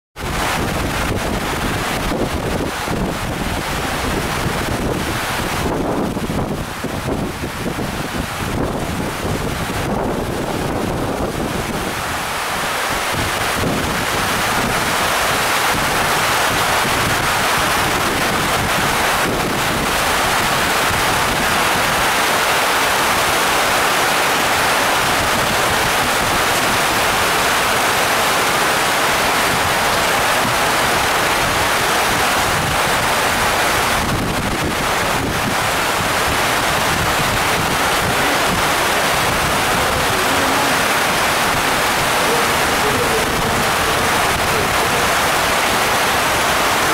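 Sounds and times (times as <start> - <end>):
heavy rain pouring: 0.2 - 46.9.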